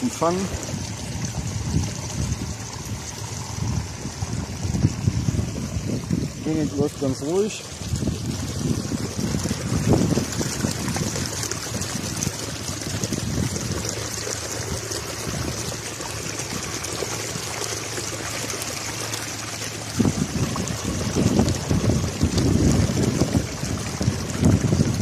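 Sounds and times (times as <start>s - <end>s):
water splashing into a tub: 0.0s - 25.0s.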